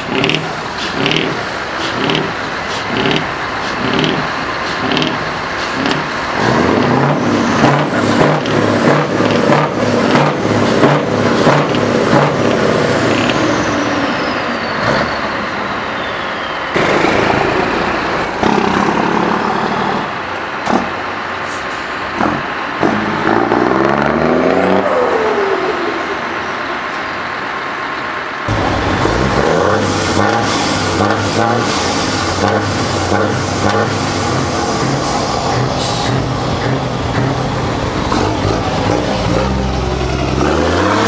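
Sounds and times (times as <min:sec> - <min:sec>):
truck diesel engines accelerating: 0:00.0 - 0:41.0.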